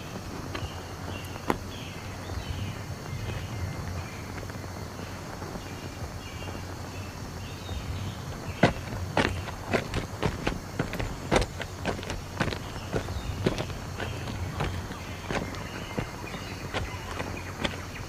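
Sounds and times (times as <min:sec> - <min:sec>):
faint high chirping: 0:00.0 - 0:18.0
footstep scuffs and clicks: 0:00.0 - 0:18.0
steady film hiss: 0:00.0 - 0:18.0.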